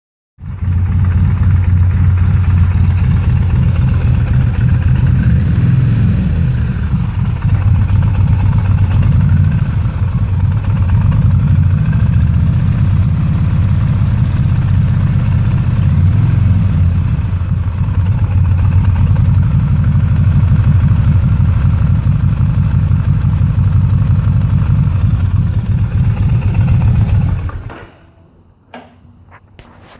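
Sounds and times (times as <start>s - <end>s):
engine ticking: 0.4s - 27.7s
motorcycle engine idling: 0.4s - 27.7s.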